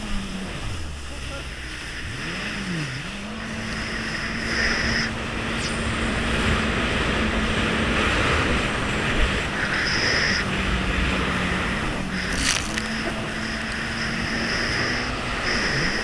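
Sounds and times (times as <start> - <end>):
jet ski engine running: 0.0 - 16.0
wind and water spray: 0.0 - 16.0.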